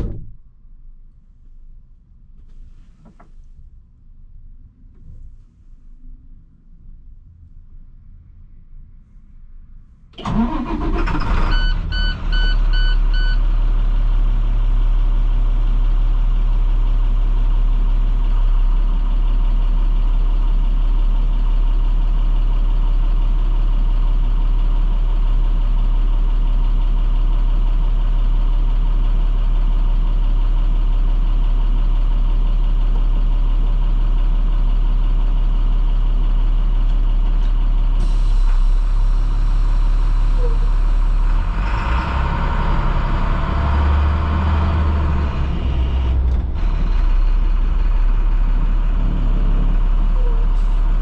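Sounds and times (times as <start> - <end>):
diesel engine idling: 9.6 - 51.0.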